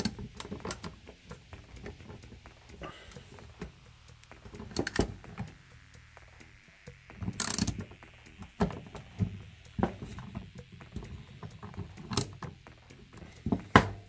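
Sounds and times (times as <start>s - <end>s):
ratchet clicking: 0.0s - 14.0s.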